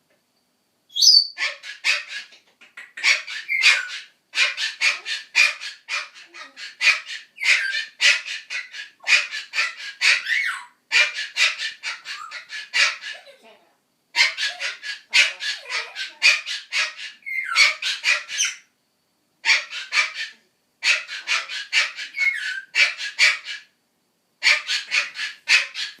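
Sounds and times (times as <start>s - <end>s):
cockatoo calling: 0.9s - 13.4s, 14.1s - 18.7s, 19.4s - 23.8s, 24.4s - 26.0s.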